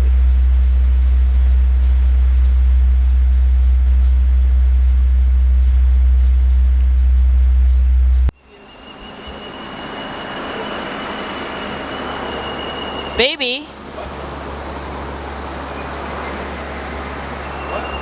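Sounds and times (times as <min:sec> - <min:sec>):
loud low rumble: 0:00.0 - 0:18.0.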